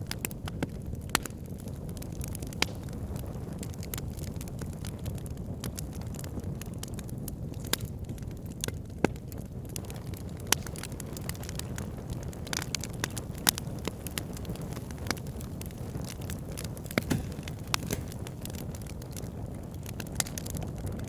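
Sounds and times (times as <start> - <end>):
fire crackling and popping: 0.0 - 21.0
fire flames rumbling: 0.0 - 21.0.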